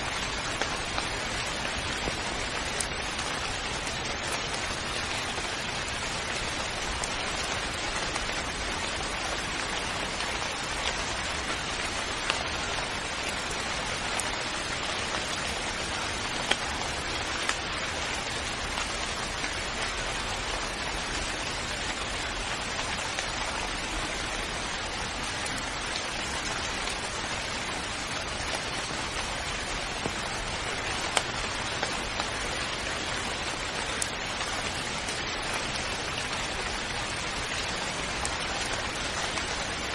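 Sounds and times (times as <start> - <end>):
rain drop ticks: 0.0 - 39.9
rain falling: 0.0 - 39.9.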